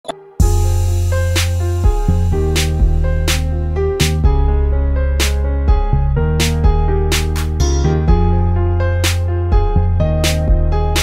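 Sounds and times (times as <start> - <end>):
music with bass notes and chords: 0.0 - 11.0.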